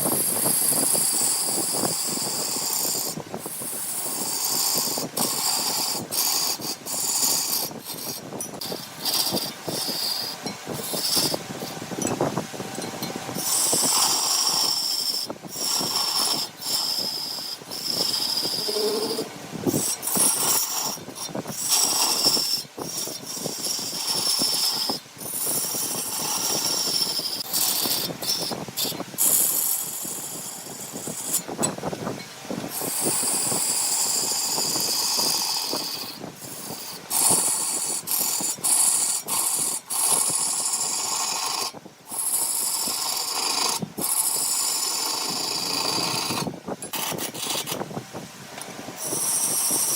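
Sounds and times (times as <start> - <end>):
wood lathe running: 0.0 - 12.0, 12.6 - 31.4, 32.8 - 47.8
turning tool hissing on wood: 0.0 - 12.1, 13.3 - 31.6, 32.7 - 47.9, 48.9 - 49.9.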